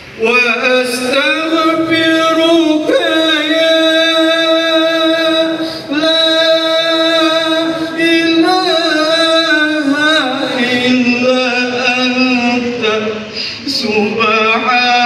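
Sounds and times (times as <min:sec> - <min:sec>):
man chanting a prayer: 0:00.2 - 0:15.0.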